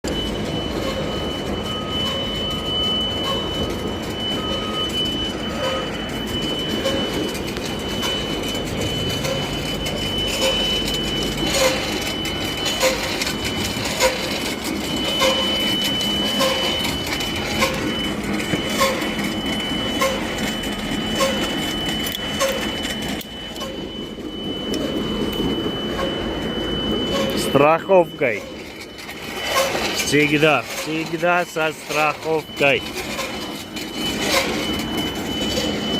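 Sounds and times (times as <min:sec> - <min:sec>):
crane machinery running: 0:00.0 - 0:35.9
high steady squeal: 0:00.1 - 0:35.9.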